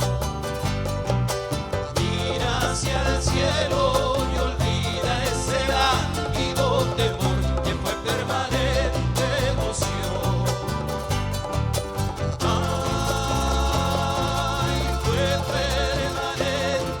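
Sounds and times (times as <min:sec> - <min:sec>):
folk band playing: 0:00.0 - 0:17.0
repeating bass line: 0:00.0 - 0:17.0
strummed rhythm: 0:00.0 - 0:17.0.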